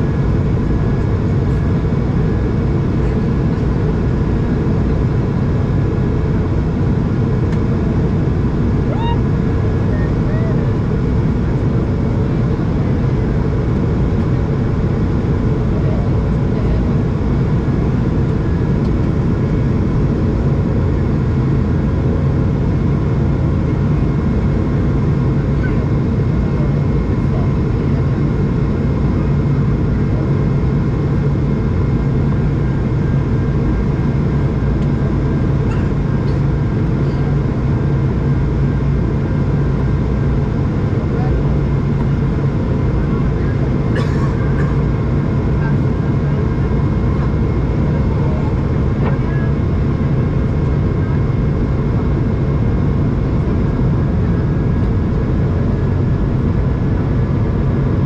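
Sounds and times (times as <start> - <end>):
jet engine cabin roar: 0.0 - 58.0.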